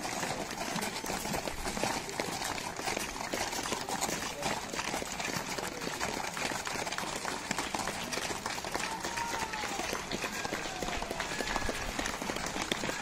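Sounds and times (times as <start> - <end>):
faint voices: 0.0 - 13.0
hooves crunching on gravel: 0.0 - 13.0.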